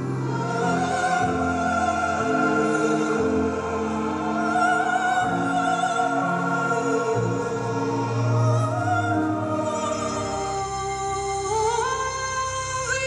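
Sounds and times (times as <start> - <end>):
orchestral chords: 0.0 - 12.5
high singing voice: 0.0 - 13.0.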